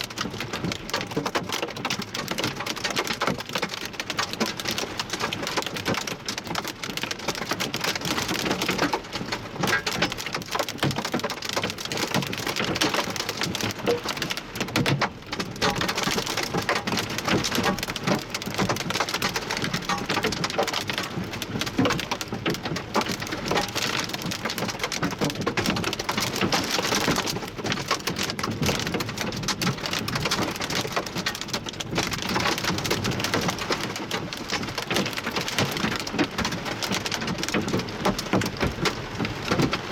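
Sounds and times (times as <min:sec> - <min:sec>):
hail and heavy rain pelting: 0:00.0 - 0:39.9.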